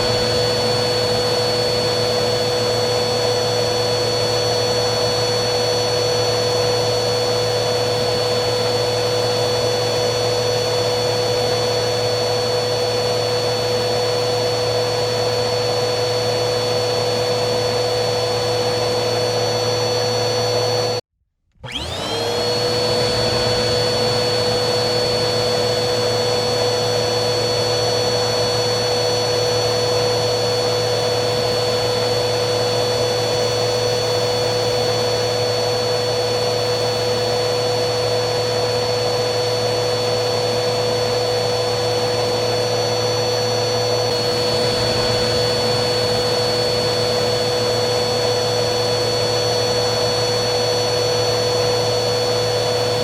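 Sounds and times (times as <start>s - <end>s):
vacuum cleaner motor running: 0.0s - 53.0s.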